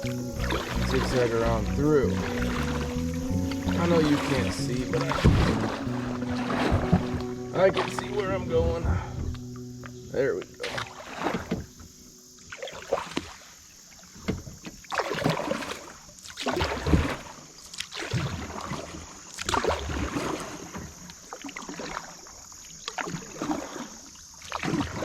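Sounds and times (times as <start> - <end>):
paddle strokes splashing water: 0.0 - 25.0.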